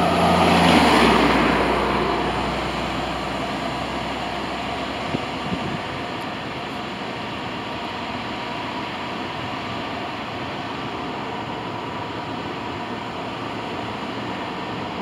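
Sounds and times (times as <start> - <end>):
car driving road noise: 0.0 - 15.0.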